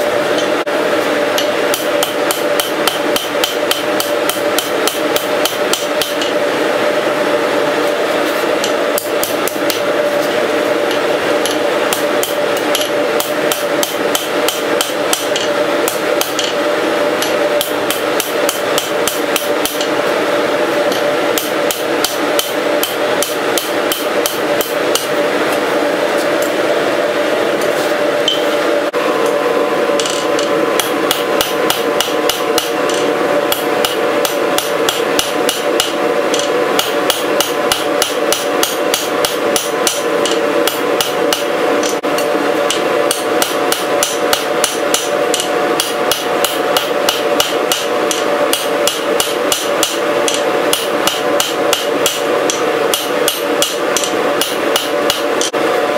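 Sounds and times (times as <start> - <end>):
steady hum: 0.0 - 55.9
hammer striking hot steel on anvil: 1.3 - 6.4, 8.3 - 16.6, 17.2 - 19.9, 20.9 - 25.6, 28.2 - 28.6, 30.0 - 55.6.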